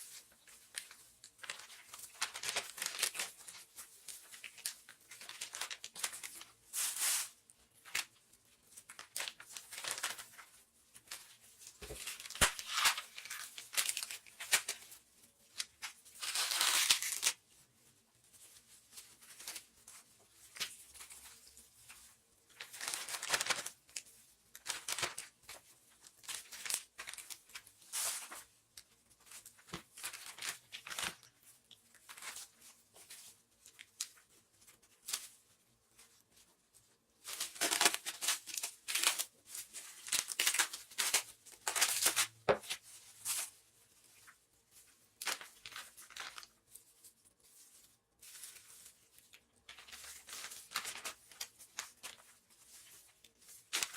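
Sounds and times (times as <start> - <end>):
plastic wrap crinkling: 0.0 - 53.9.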